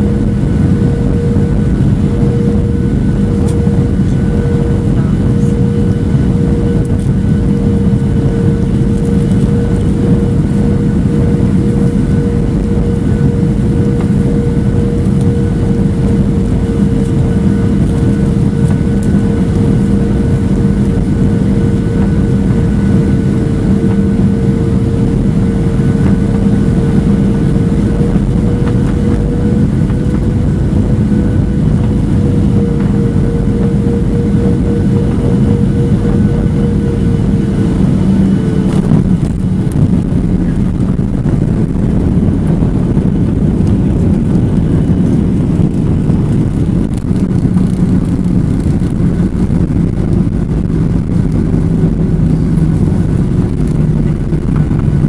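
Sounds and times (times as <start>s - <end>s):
jet engine noise: 0.0s - 55.0s
rushing air: 0.0s - 55.0s
steady humming tone: 0.0s - 55.0s.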